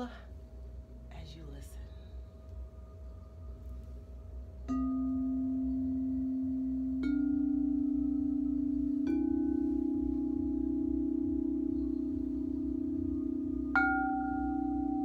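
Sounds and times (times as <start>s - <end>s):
crystal singing bowls ringing: 1.8s - 15.0s.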